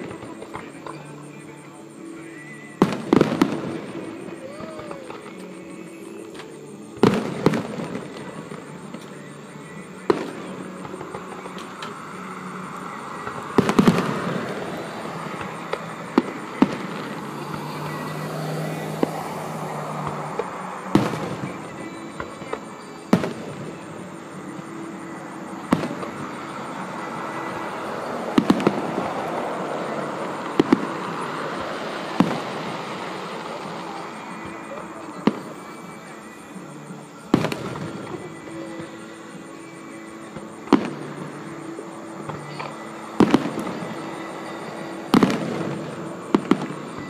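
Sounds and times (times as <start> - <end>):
steady background noise: 0.0 - 47.0.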